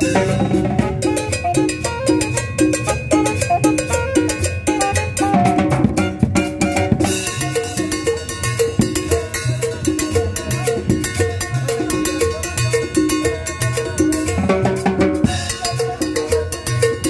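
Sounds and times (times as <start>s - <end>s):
live band playing latin dance music: 0.0s - 17.0s.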